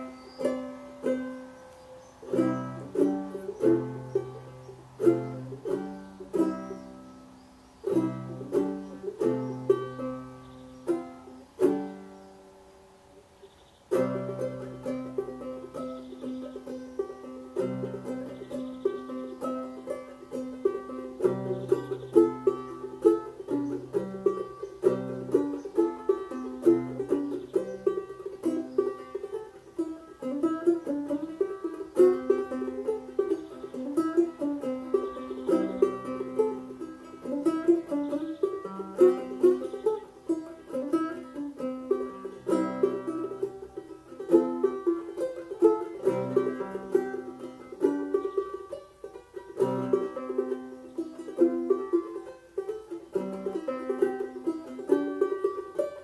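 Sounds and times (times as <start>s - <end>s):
banjo played clawhammer style: 0.0s - 12.3s, 13.9s - 56.0s.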